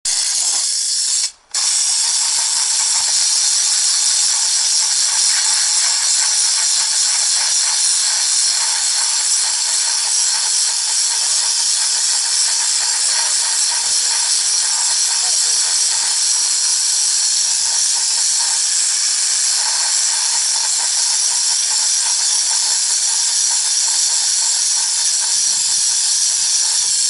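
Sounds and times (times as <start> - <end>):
steam jet hissing: 0.1 - 27.0.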